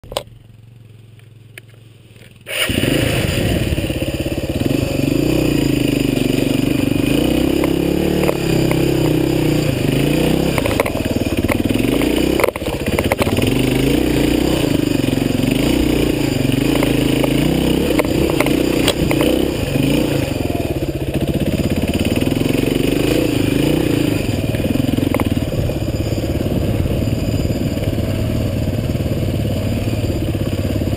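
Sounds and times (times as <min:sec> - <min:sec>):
knocks and clatter from bike: 0:00.0 - 0:00.4, 0:04.2 - 0:30.9
dirt bike engine revving: 0:02.4 - 0:30.9.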